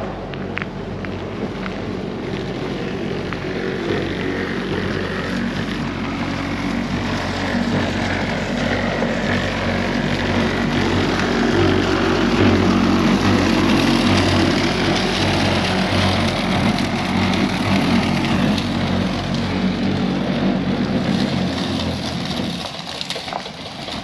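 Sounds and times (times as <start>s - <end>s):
road noise: 0.0s - 24.0s
vehicle engine droning: 0.0s - 24.0s.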